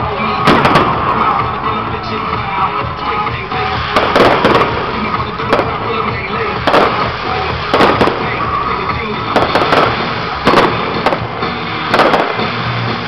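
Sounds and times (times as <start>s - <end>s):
fireworks bangs: 0.0s - 13.0s
music playing: 0.0s - 13.0s.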